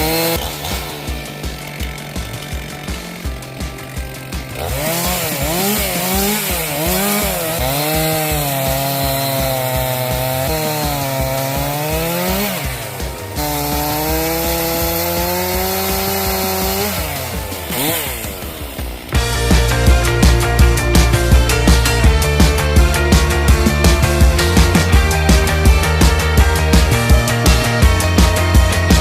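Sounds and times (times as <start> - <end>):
background music with beat: 0.0 - 29.0
chainsaw cutting wood: 0.0 - 29.0.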